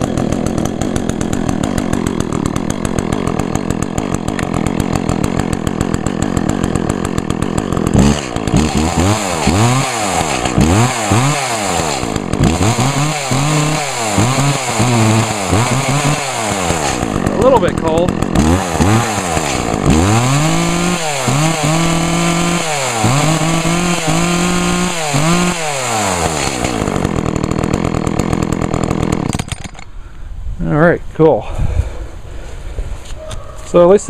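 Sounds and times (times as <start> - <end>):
chainsaw engine idling and revving: 0.0 - 29.9.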